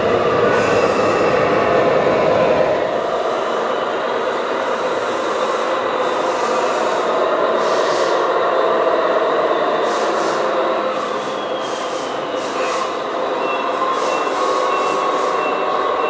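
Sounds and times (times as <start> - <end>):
model truck whine and rumble: 0.0 - 16.0.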